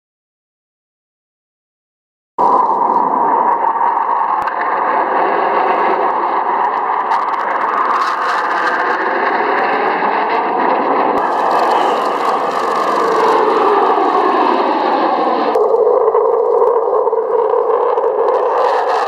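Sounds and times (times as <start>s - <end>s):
jet engine roar: 2.4s - 19.0s.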